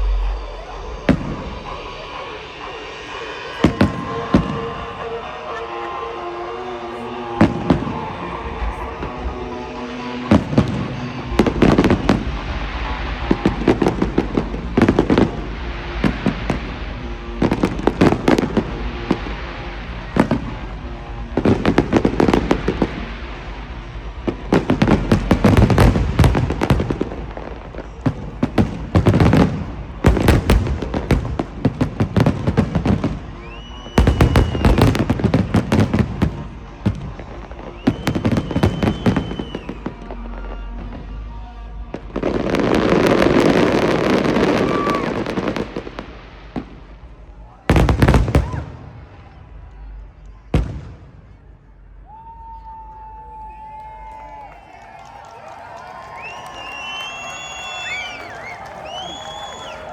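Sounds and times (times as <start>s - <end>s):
fireworks booming: 0.0s - 6.1s, 6.9s - 49.4s, 50.5s - 51.4s
high firework whistles: 0.0s - 46.8s, 55.7s - 59.9s
crackling fireworks salvos: 0.0s - 59.9s.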